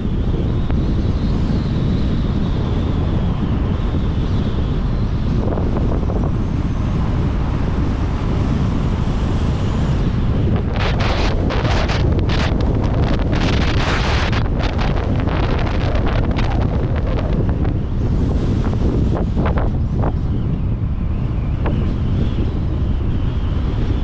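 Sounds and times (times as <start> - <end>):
car road noise: 0.0 - 24.0
wind buffeting microphone: 0.0 - 24.0.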